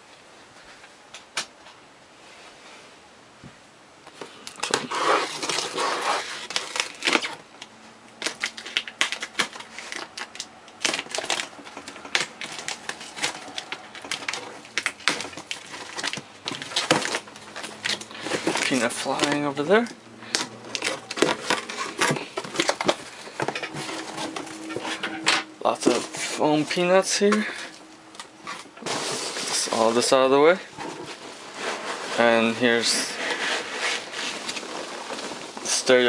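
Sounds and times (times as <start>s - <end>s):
hands rummaging packing peanuts: 4.5s - 7.6s, 8.2s - 36.0s
cardboard box being opened: 4.6s - 7.4s, 8.2s - 25.2s, 25.8s - 36.0s.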